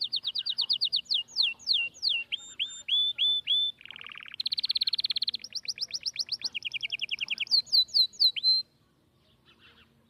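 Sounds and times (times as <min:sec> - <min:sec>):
songbird singing rapid high notes: 0:00.0 - 0:08.7.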